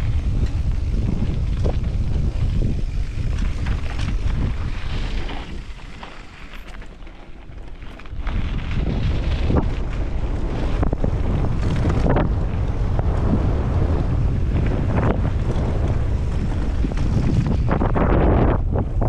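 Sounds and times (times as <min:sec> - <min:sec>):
bike clacking and rattling: 0:00.0 - 0:19.0
tyres rumbling on dirt: 0:00.0 - 0:19.0
wind buffeting microphone: 0:00.0 - 0:19.0.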